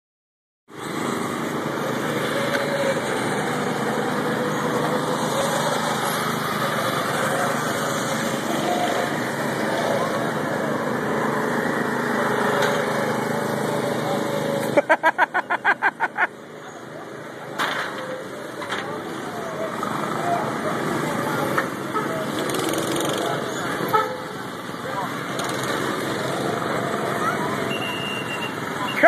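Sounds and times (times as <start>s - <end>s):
go-kart engine running: 0.7s - 29.0s.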